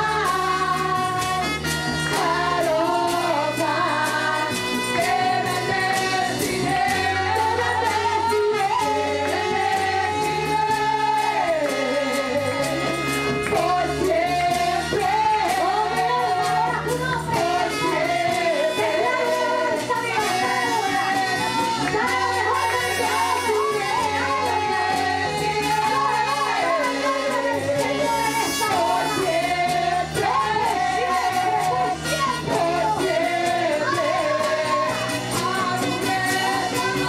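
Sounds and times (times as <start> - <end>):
band with guitar bass and drums: 0.0 - 37.0
women singing together: 0.0 - 37.0.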